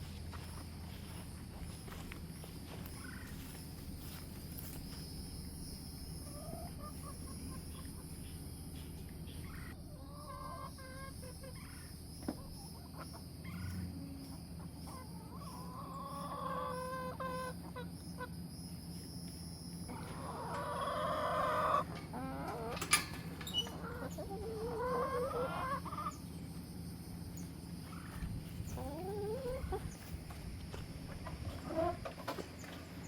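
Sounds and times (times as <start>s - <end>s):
chickens clucking: 0.0s - 19.1s, 19.8s - 33.0s.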